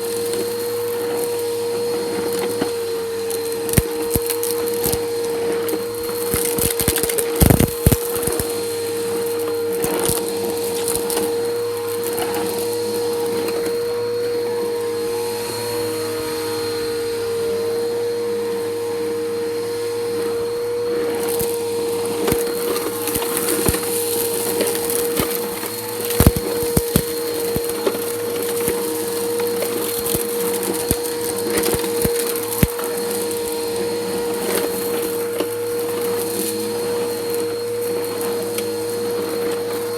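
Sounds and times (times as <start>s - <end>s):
grit crackling through nozzle: 0.0s - 13.8s, 21.0s - 39.9s
vacuum cleaner motor running: 0.0s - 39.9s.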